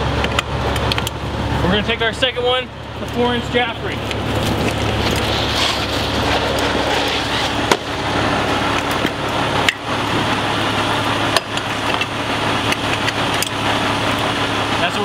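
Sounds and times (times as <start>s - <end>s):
fire engine idling: 0.0s - 15.0s.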